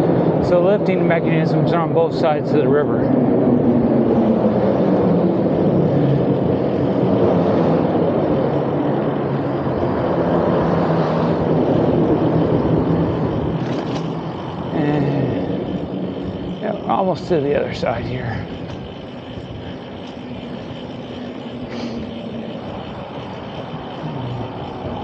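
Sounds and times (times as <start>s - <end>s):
steady low hum: 0.0s - 25.0s
vehicle tyre and engine noise: 0.0s - 25.0s.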